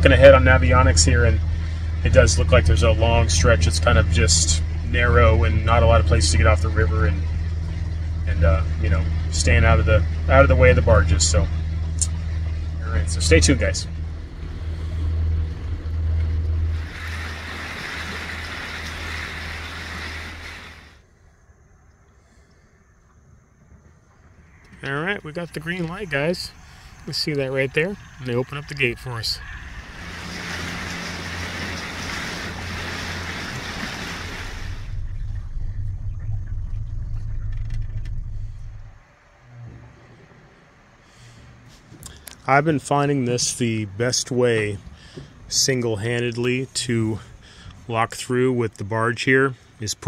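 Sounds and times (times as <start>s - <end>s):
boat motor humming: 0.0s - 50.0s
wind and water noise: 0.0s - 50.0s.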